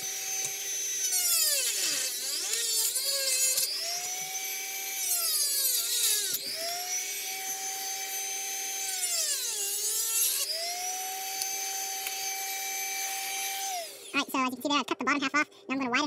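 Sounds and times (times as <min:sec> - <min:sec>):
rotary tool cutting plastic: 0:00.0 - 0:14.2.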